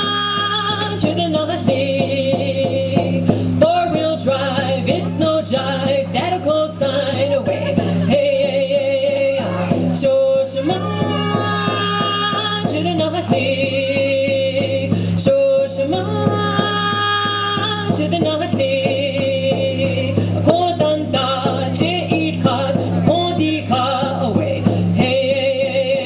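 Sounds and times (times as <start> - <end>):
frame drum beat: 0.0 - 26.0
woman singing with vibrato: 0.0 - 26.0.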